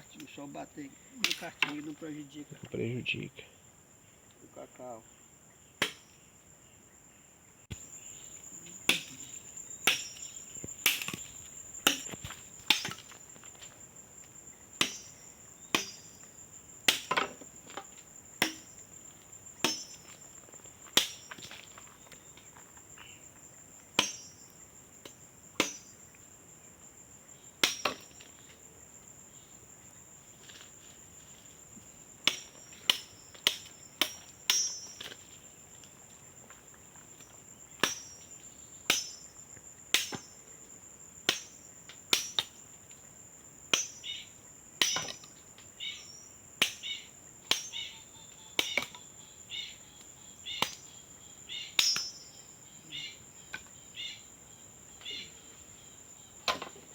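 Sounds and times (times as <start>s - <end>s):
high-pitched insect trill: 0.0s - 56.9s.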